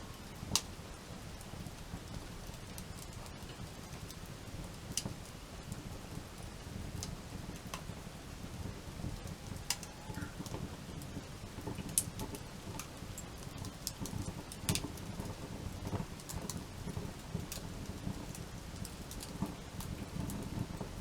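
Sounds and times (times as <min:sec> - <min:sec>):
campfire crackling: 0:00.0 - 0:21.0
burning wood popping: 0:00.1 - 0:21.0.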